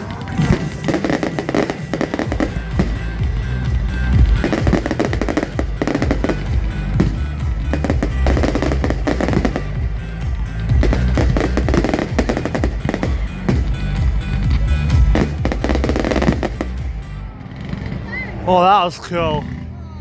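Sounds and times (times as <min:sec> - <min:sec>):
fireworks bangs and crackles: 0:00.0 - 0:19.6
music playing: 0:00.0 - 0:20.0.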